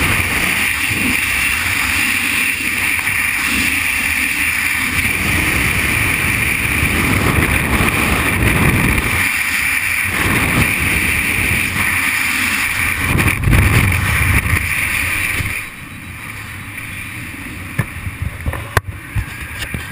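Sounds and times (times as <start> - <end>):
wind roaring over microphone: 0.0 - 19.9.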